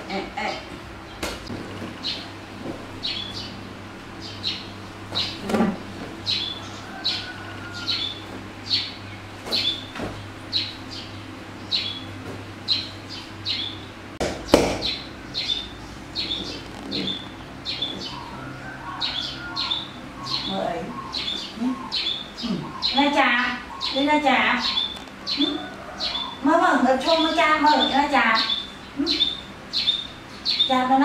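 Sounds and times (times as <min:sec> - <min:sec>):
low steady hum: 0:00.0 - 0:31.0
bird chirping: 0:03.0 - 0:05.5, 0:06.2 - 0:31.0.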